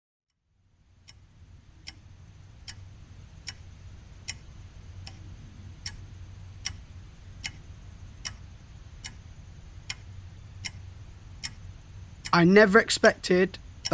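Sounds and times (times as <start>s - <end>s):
low hum: 0.3s - 13.9s
steady ticking: 0.3s - 13.9s.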